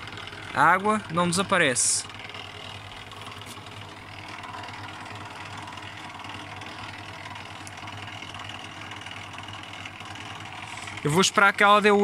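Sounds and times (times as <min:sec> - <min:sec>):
washing machine pump humming: 0:00.0 - 0:12.0.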